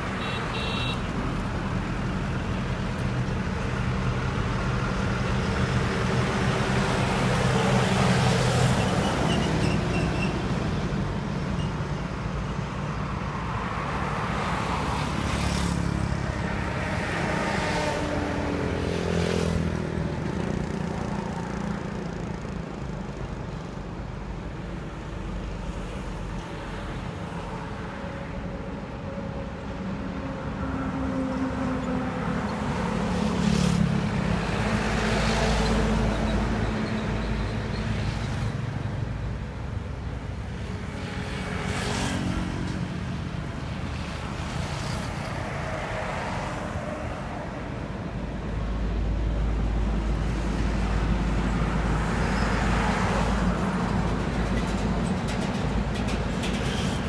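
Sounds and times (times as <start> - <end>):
highway traffic passing: 0.0 - 57.0.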